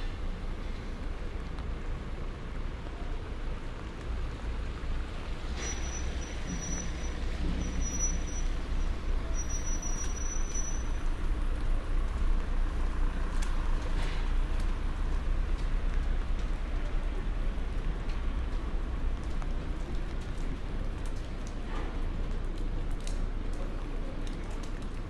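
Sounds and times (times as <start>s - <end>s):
light rain on wet street: 0.0s - 25.0s
traffic rumble: 0.0s - 25.0s.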